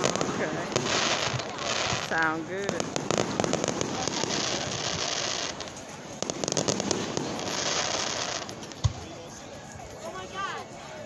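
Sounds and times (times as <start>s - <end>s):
fireworks bursting and crackling: 0.0s - 10.6s.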